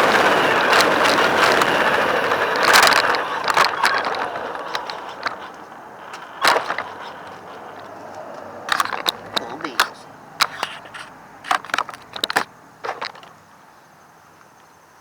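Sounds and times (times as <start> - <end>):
radio-controlled car motor: 0.0 - 13.3.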